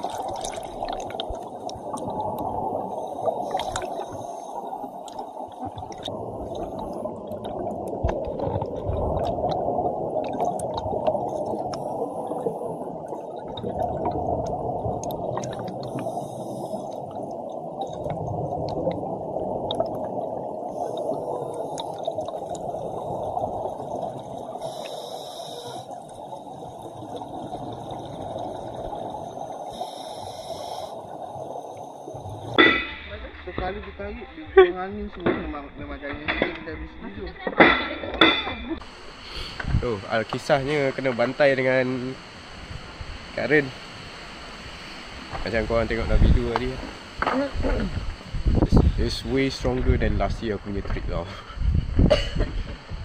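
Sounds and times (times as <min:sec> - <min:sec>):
muffled underwater current rush: 0:00.0 - 0:33.8, 0:36.1 - 0:53.0
water bubbling: 0:00.0 - 0:53.0.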